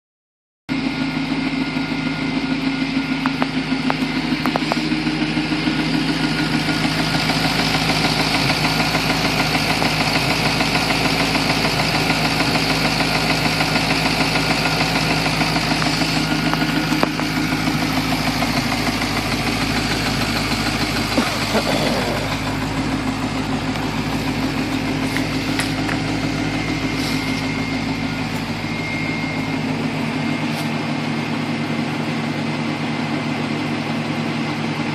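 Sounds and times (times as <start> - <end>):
car engine idling: 0.7 - 34.9.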